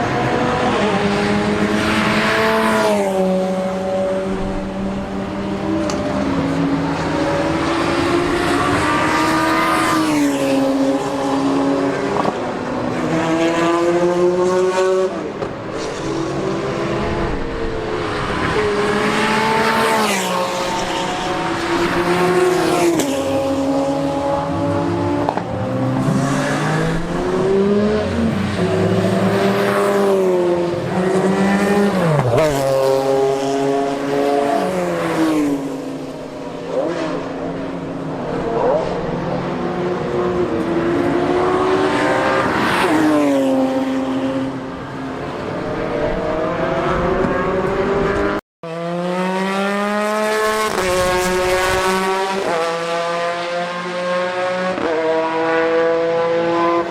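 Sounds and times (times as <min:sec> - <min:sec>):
race car engines revving: 0:00.0 - 0:56.9.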